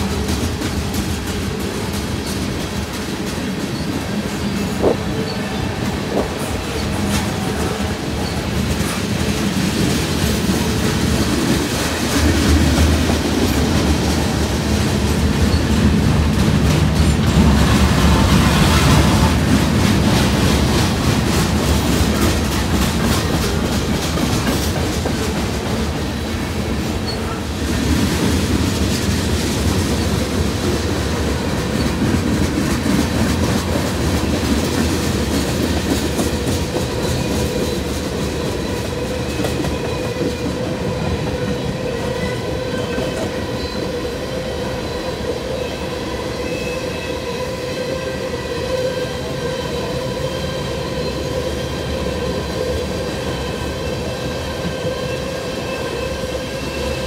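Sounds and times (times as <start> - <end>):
clickety-clack over rail joints: 0.0 - 57.0
train wheels rumbling on rail: 0.0 - 57.0.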